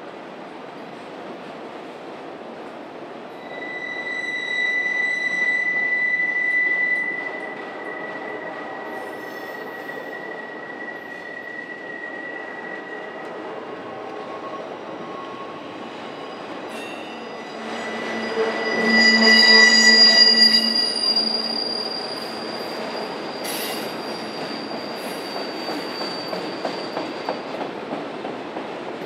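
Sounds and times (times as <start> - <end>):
high wheel squeal: 3.4 - 27.3
freight train cars rumbling: 3.4 - 29.0.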